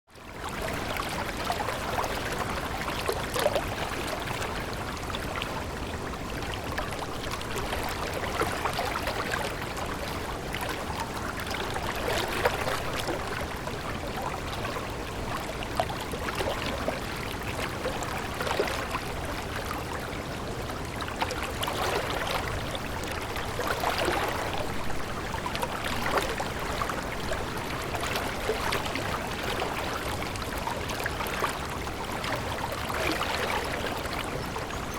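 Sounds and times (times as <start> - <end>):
stream babbling and trickling: 0.1 - 34.9.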